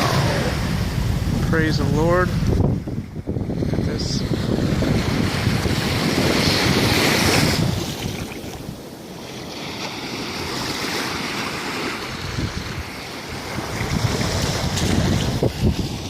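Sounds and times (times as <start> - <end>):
wind buffeting microphone: 0.0 - 9.0, 10.3 - 16.0
surf breaking on beach: 0.0 - 16.0.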